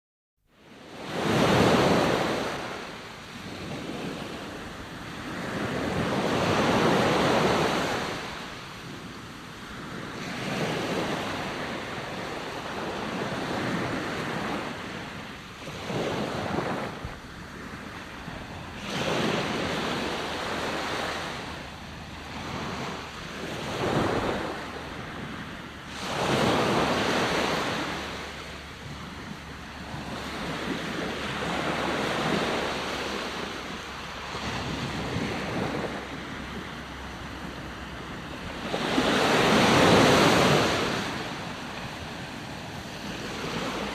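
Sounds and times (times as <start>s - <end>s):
ocean waves breaking: 0.6s - 43.9s.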